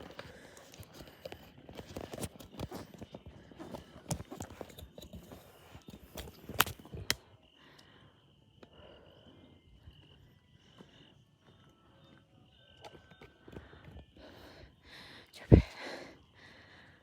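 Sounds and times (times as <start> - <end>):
faint high-pitched insect hum: 0.0 - 17.0.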